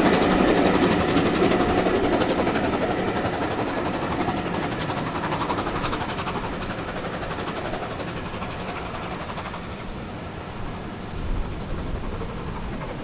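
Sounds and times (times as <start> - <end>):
steam train running past: 0.0 - 13.0.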